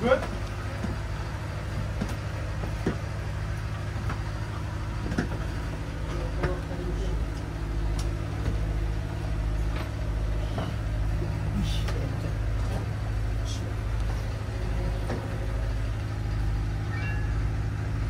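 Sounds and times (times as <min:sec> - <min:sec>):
engine room machinery humming: 0:00.0 - 0:18.0.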